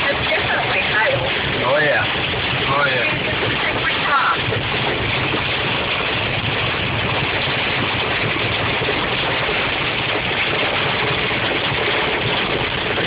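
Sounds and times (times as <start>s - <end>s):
rain and hail on car roof: 0.0s - 13.0s
tyres hissing on wet road: 0.0s - 13.0s.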